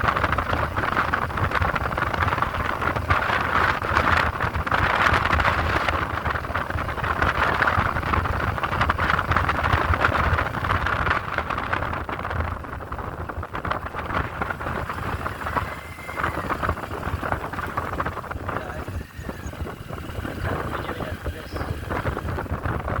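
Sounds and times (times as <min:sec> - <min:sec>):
motorcycle engine: 0:00.0 - 0:23.0
road noise: 0:00.0 - 0:23.0
wind rushing over microphone: 0:00.0 - 0:23.0.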